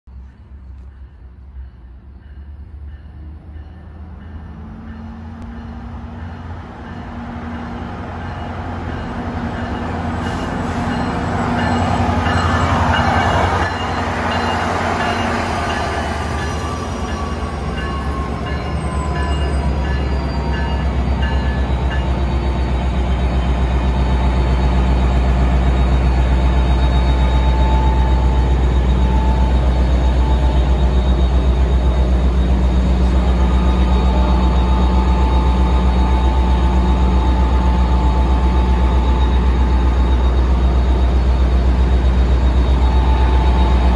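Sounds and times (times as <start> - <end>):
diesel locomotive engine throb: 0.2 - 43.9.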